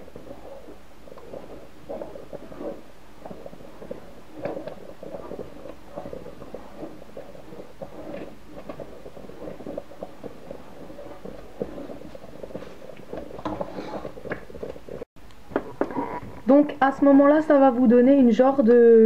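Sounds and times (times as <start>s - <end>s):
porridge bubbling in a pot: 0.0s - 18.6s
wooden spoon stirring: 0.0s - 18.6s.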